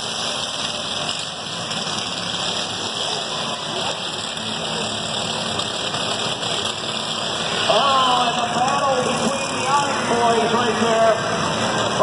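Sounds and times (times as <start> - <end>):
riding lawn mower engines: 0.0 - 12.0.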